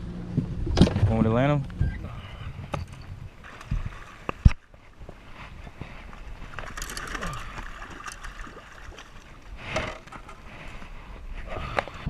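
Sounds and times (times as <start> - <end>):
water splashing and sloshing: 2.2 - 12.0.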